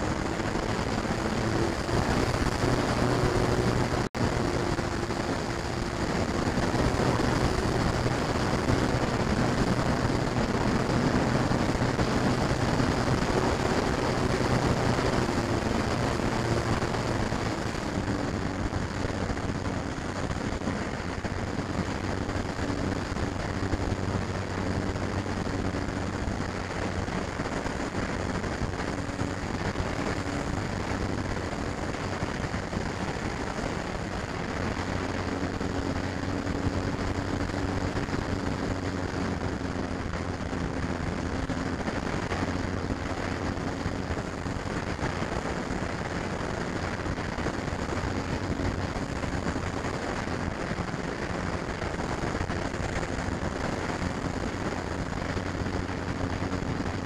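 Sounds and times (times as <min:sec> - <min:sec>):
model plane motor hum: 0:00.0 - 0:57.0
wind noise on microphone: 0:00.0 - 0:57.0.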